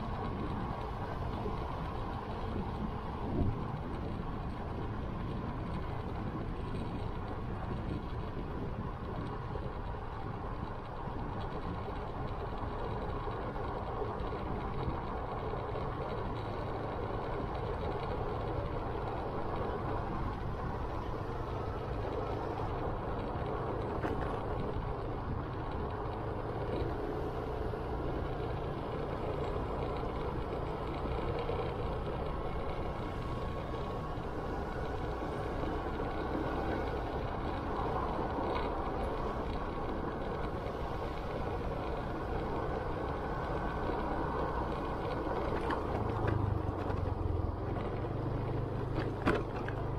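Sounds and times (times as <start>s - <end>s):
wind and road noise: 0.0s - 49.9s.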